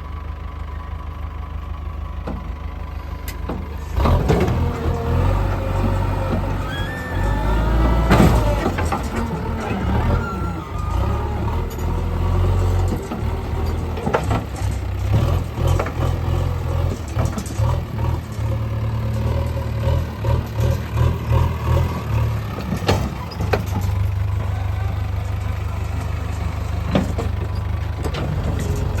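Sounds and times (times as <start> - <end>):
diesel engine working: 0.0 - 29.0.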